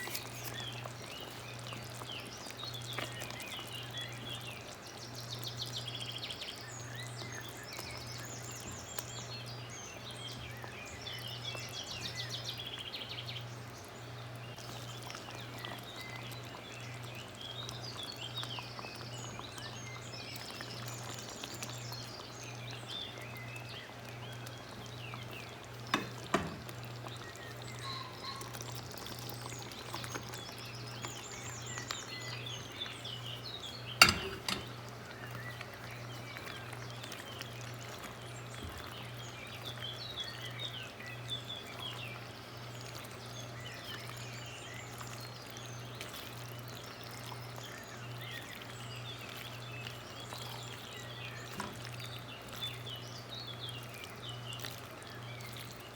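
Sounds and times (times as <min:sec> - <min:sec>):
birds chirping in trills: 0:00.0 - 0:55.9.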